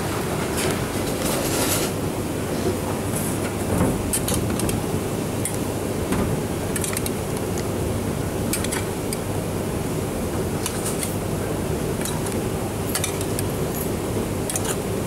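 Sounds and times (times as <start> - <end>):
kitchen background hum: 0.0 - 15.0.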